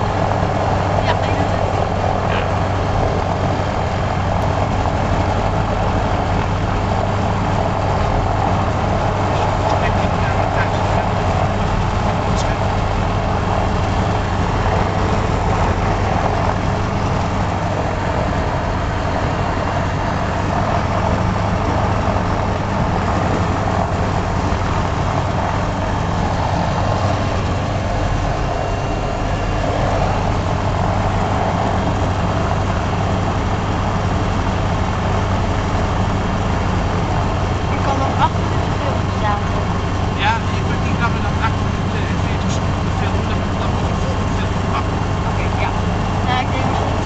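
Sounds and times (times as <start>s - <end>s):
small plane engine and propeller: 0.0s - 47.0s.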